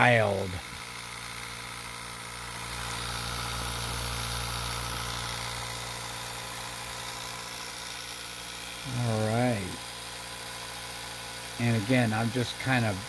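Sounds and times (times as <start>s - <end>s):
electric motor humming and whirring: 0.0s - 13.0s.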